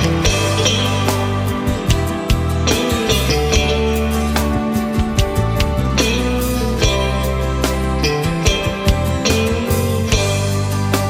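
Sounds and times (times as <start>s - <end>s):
bass line: 0.0s - 11.0s
guitar: 0.0s - 11.0s
sustained chords: 0.0s - 11.0s.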